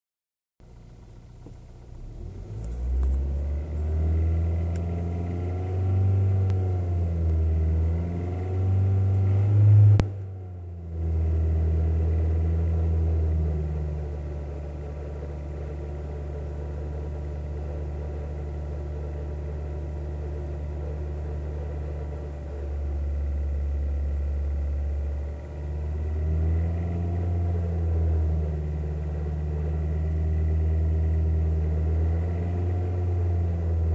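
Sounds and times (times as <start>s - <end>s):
car engine revving and idling: 0.6s - 33.9s.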